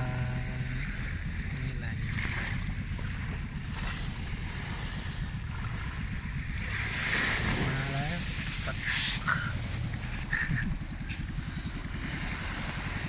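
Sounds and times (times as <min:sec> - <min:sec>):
small waves washing on beach: 0:00.0 - 0:13.0
wind rumble on microphone: 0:00.0 - 0:13.0.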